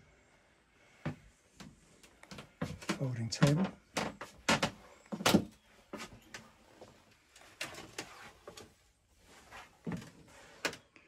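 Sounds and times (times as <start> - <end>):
footsteps in a boat cabin: 1.0 - 10.8.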